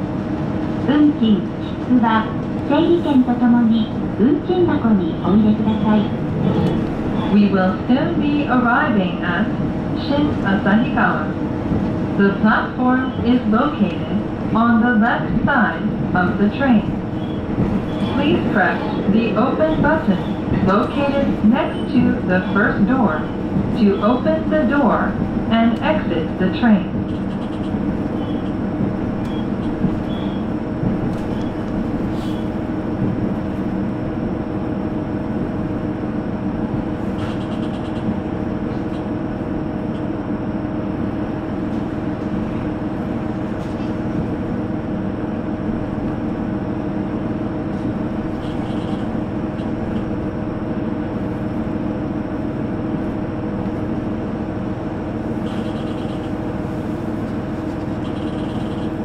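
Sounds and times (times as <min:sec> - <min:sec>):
railcar engine and wheels drone: 0:00.0 - 0:59.0
constant whine: 0:00.1 - 0:59.0.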